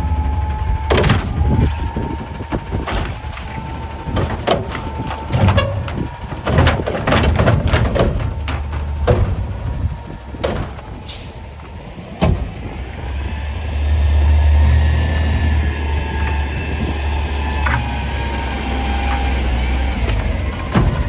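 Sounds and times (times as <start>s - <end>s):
garbage truck clanks and bangs: 0.0s - 21.0s
truck engine rumble: 0.0s - 21.0s.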